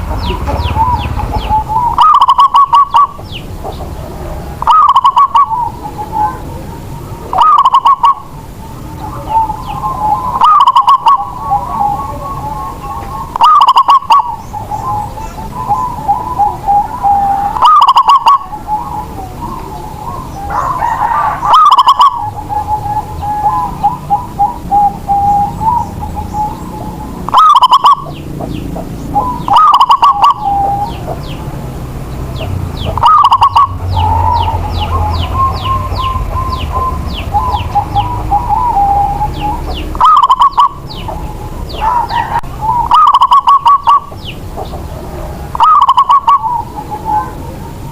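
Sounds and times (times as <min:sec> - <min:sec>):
dove cooing: 0:00.0 - 0:47.9
small birds chirping: 0:00.0 - 0:47.9.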